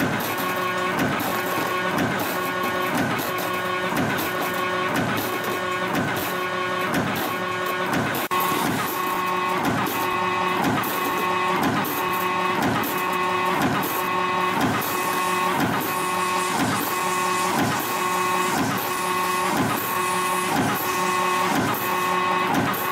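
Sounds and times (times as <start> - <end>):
machine motor whine: 0.0 - 22.9
swishing mechanical cycle: 0.0 - 22.9.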